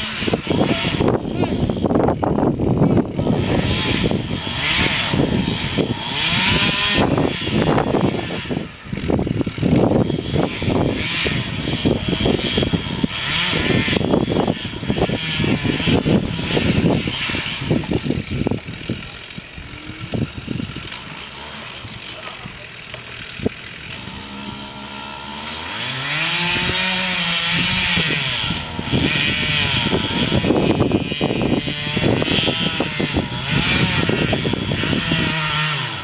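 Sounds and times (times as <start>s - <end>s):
chainsaw engine revving: 0.0s - 36.0s.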